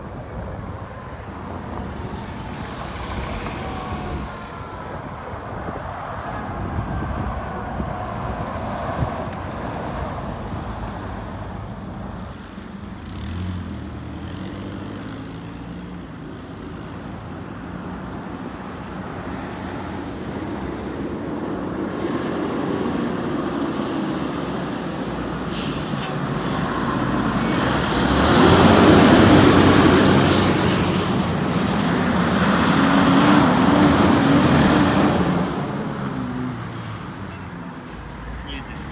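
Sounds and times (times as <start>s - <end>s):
fire trucks diesel engines running: 0.0s - 38.9s.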